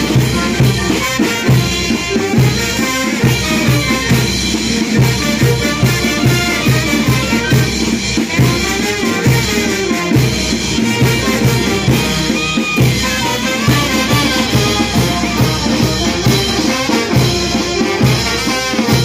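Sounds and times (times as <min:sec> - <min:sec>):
bass drum beat: 0:00.0 - 0:18.4
trumpets playing tune: 0:00.0 - 0:19.0.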